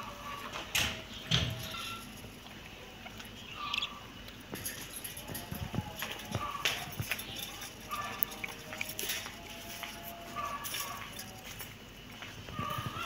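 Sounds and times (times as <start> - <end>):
cats chewing with crunching clicks: 2.0 - 13.0.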